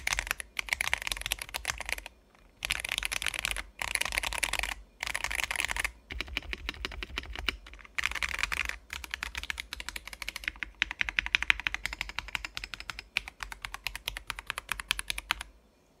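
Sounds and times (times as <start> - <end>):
mechanical keyboard typing: 0.0 - 15.5.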